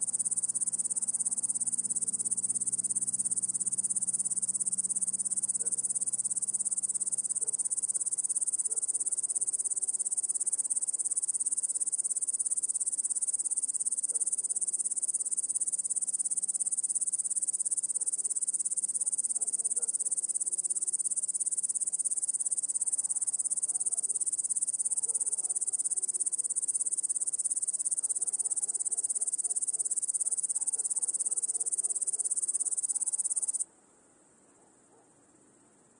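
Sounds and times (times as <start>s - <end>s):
crickets trilling: 0.0s - 33.6s.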